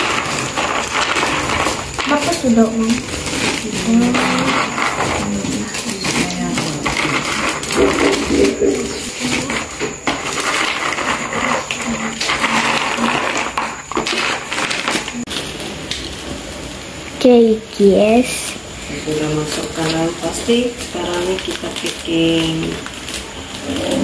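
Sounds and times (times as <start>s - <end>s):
fried snacks rattling into bags: 0.0s - 15.5s, 18.9s - 24.0s
plastic bags crinkling: 0.0s - 16.2s, 18.8s - 24.0s.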